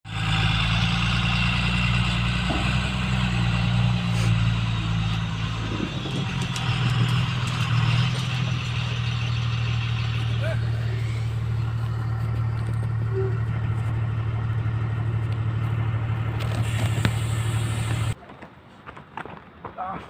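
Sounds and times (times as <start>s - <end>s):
diesel engine running: 0.0s - 18.2s.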